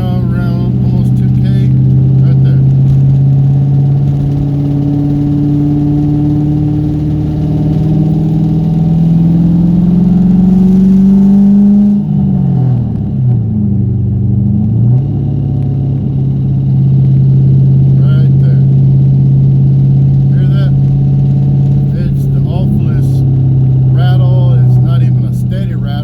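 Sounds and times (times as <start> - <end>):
car engine pulling: 0.0 - 26.0.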